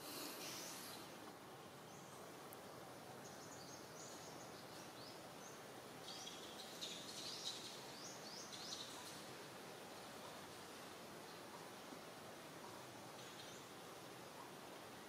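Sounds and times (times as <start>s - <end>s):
background hiss: 0.0s - 15.0s
small birds chirping: 0.0s - 15.0s.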